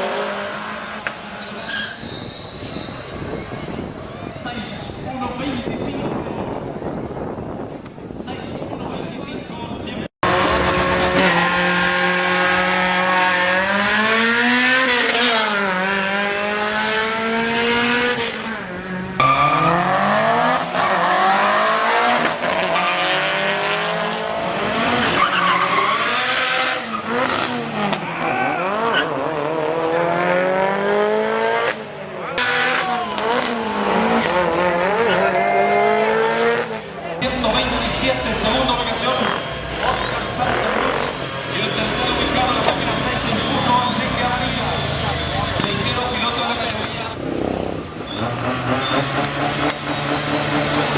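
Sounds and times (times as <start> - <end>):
drag racing engines revving: 0.0 - 8.8, 10.2 - 50.9.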